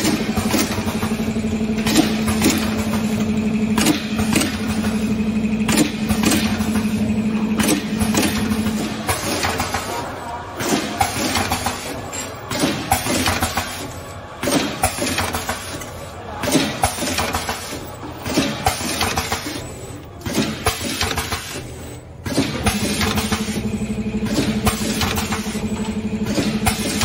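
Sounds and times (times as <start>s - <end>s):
packing machine clinking and clacking: 0.0s - 27.0s.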